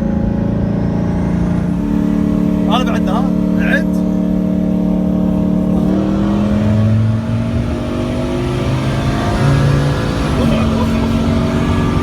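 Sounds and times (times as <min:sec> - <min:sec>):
car engine revving under load: 0:00.0 - 0:12.0.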